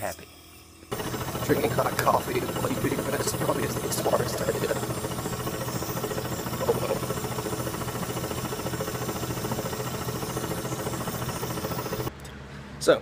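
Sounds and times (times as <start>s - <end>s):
machine hum with rapid pulsing: 0.4s - 12.1s
nebulizer: 0.9s - 12.1s.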